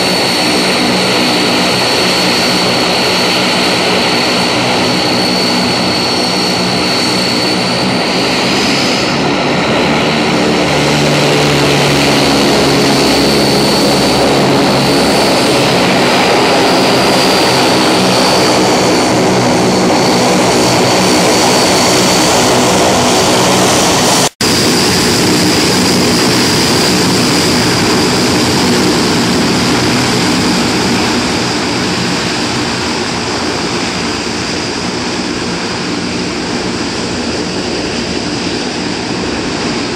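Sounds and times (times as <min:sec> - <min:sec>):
propellers buzzing: 0:00.0 - 0:39.9
turbine whine: 0:00.0 - 0:39.9.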